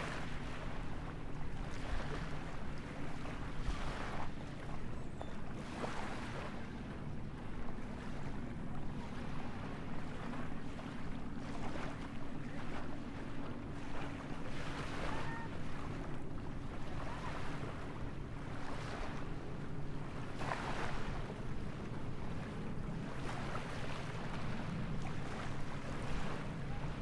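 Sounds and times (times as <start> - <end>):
small waves washing onto beach: 0.0 - 4.9, 5.6 - 27.0.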